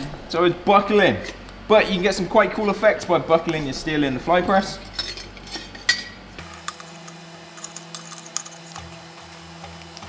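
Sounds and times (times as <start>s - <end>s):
steady workshop hum: 0.0s - 10.0s.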